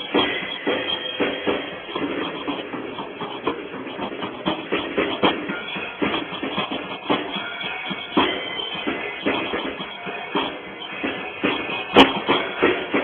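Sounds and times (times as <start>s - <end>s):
drum kit solo: 0.0s - 13.0s.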